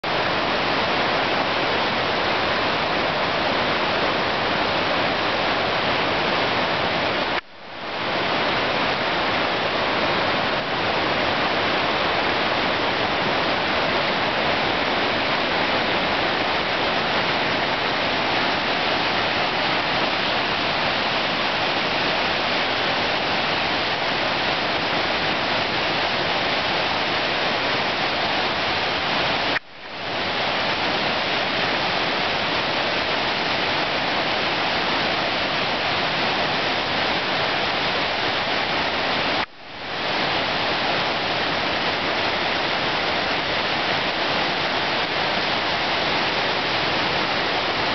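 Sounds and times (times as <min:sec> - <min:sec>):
river rushing: 0:00.0 - 0:47.9.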